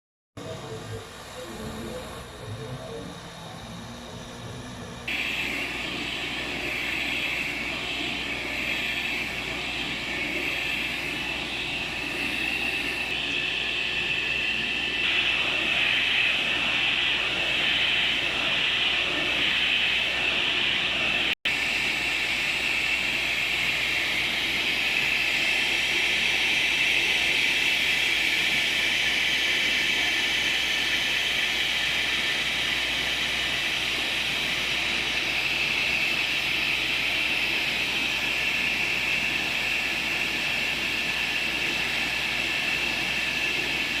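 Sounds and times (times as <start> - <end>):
printer whirring: 0.4 - 44.0.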